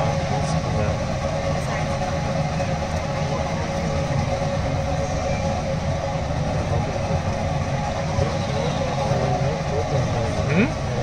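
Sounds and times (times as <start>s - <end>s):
electric car rumble and whine: 0.0s - 11.0s.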